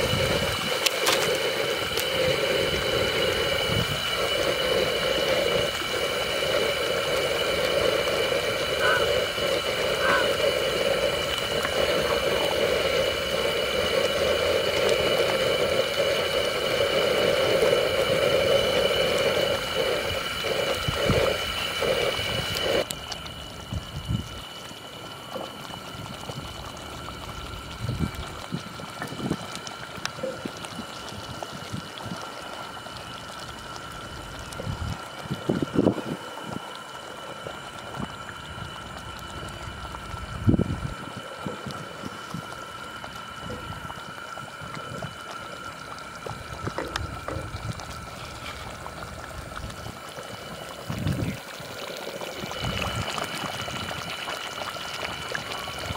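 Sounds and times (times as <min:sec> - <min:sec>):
curry bubbling in a pot: 0:00.0 - 0:55.9.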